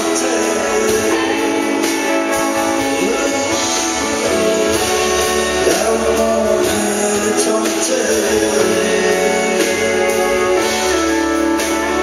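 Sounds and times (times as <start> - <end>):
acoustic guitars strummed: 0.0 - 12.0
drums: 0.0 - 12.0
electric guitar: 0.0 - 12.0.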